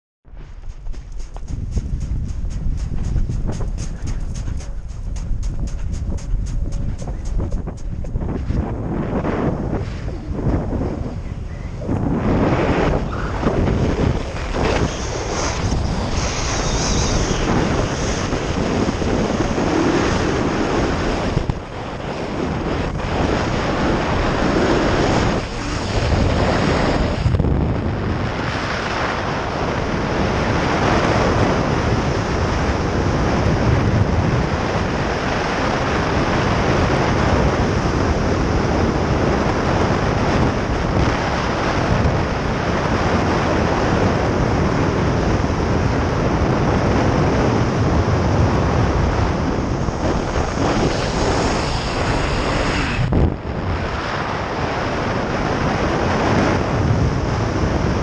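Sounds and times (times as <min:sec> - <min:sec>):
wind buffeting microphone: 0:00.3 - 0:58.0.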